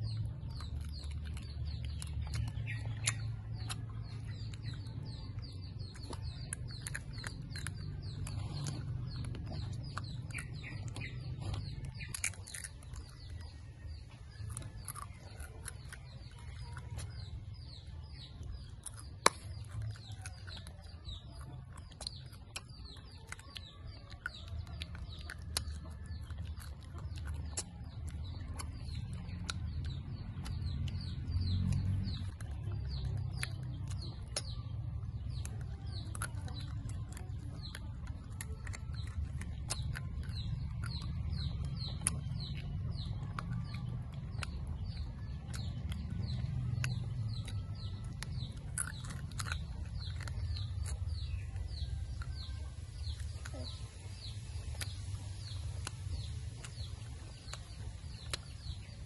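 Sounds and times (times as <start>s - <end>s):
crunching of dried chips chewed: 0.0s - 59.0s
low steady rumble: 0.0s - 59.0s.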